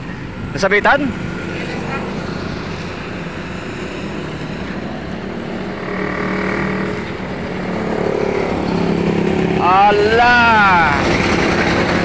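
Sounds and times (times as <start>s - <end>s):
steady background noise: 0.0s - 12.0s
vehicle engine passing: 0.0s - 12.0s.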